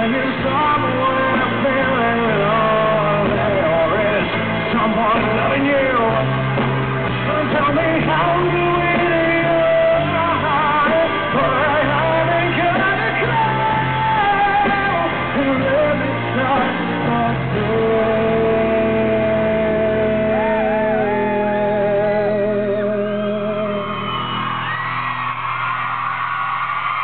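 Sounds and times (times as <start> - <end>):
man singing: 0.0 - 24.4
rock band chords: 0.0 - 27.0.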